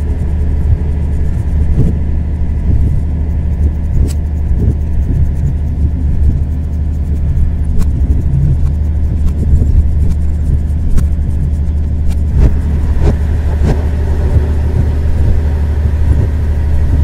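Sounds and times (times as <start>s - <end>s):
locomotive rumbling on rails: 0.0s - 17.0s.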